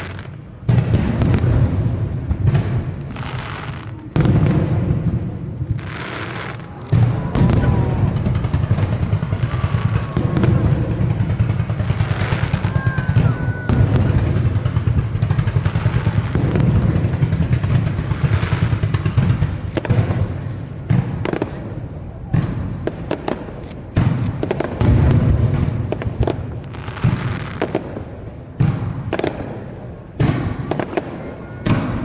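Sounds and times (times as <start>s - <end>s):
fireworks booming: 0.0s - 32.0s
fireworks cracks and bangs: 0.0s - 32.0s.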